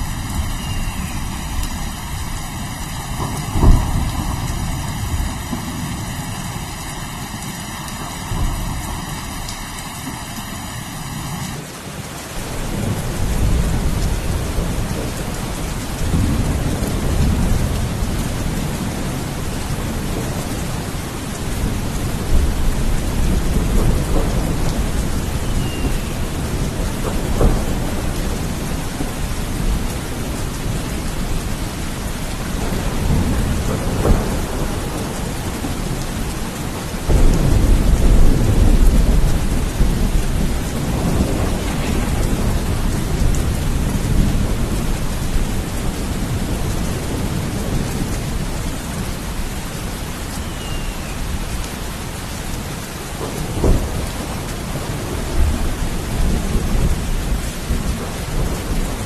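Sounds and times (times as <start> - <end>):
rolling thunder: 0.0 - 10.5, 12.4 - 50.1, 53.2 - 59.0
heavy rain: 0.0 - 59.0.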